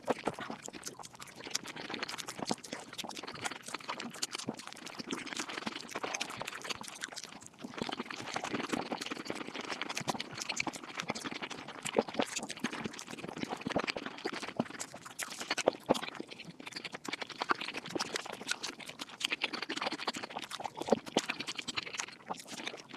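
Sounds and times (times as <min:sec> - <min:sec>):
sped-up chewing clicks: 0:00.0 - 0:22.9.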